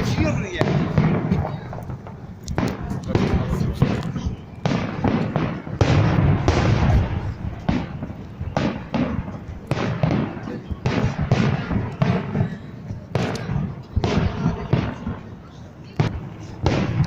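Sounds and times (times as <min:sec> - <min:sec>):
firework shells booming: 0:00.0 - 0:17.0.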